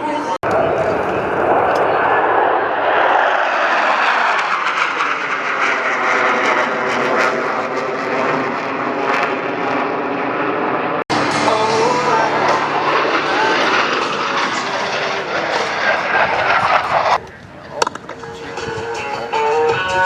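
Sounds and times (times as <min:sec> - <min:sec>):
jet roar flying past: 0:00.0 - 0:20.0.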